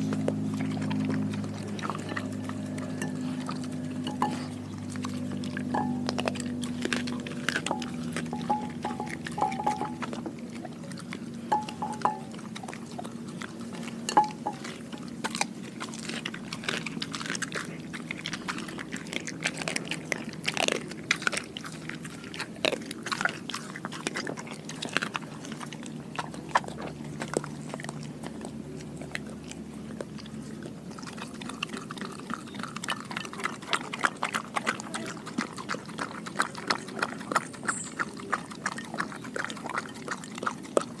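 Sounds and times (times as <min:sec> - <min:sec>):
dog chewing and crunching fish: 0:00.0 - 0:41.0.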